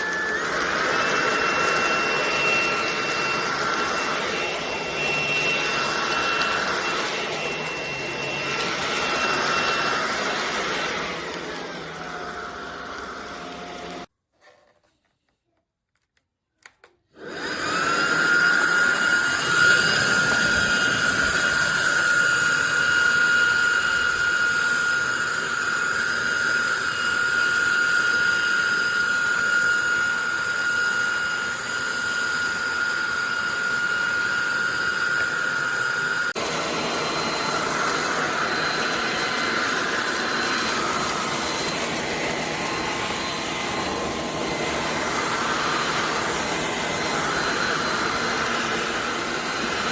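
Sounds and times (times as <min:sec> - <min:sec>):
vacuum motor whine: 0:00.0 - 0:14.1, 0:17.2 - 0:49.9.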